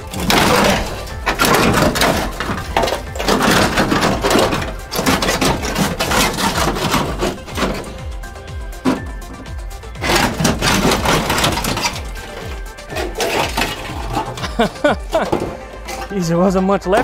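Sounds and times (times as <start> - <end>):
sheet metal scraping and crunching: 0.0 - 17.0.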